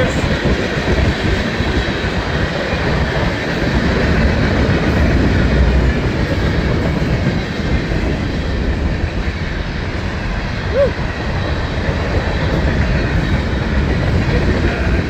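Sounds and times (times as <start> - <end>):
freight train cars rolling: 0.0 - 15.0
steel wheels rattling on rails: 0.0 - 15.0.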